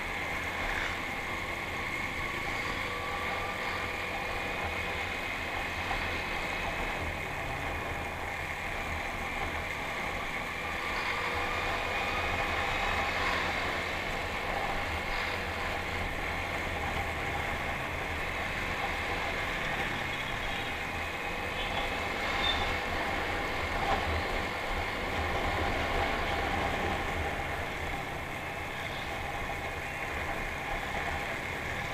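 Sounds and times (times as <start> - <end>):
wind and road noise: 0.0 - 31.9.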